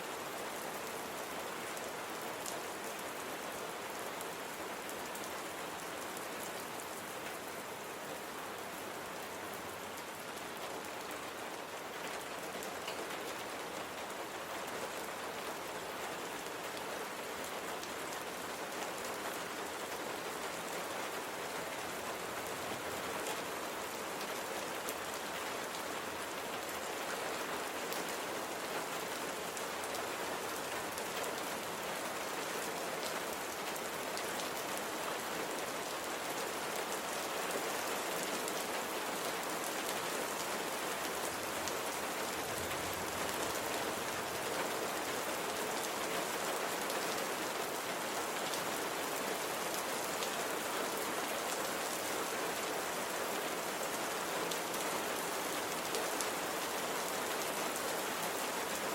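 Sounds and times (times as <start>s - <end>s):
steady rain hissing: 0.0s - 58.9s.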